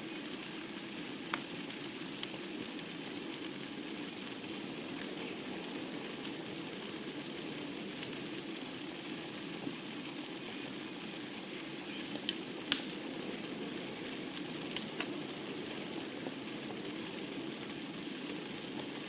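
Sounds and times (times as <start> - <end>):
fire crackling and popping: 0.0 - 19.0
fire hissing and rustling: 0.0 - 19.0.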